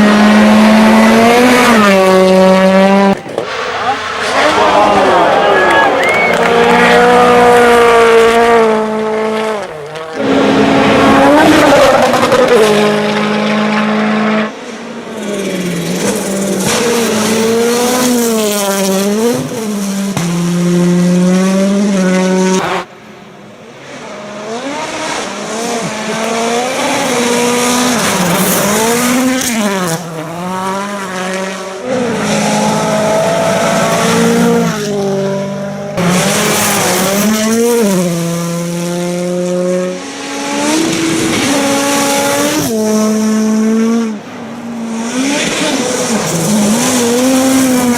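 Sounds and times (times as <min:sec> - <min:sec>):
racing engines revving: 0:00.0 - 0:47.9.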